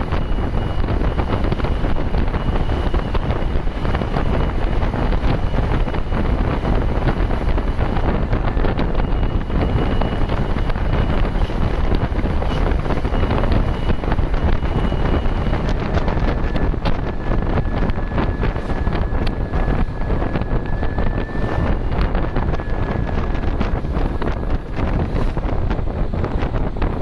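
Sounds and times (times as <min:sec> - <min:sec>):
high-pitched turbo whistle: 0:00.0 - 0:25.5
diesel bus engine pulling hard: 0:00.0 - 0:27.0
wind buffeting microphone: 0:00.0 - 0:27.0.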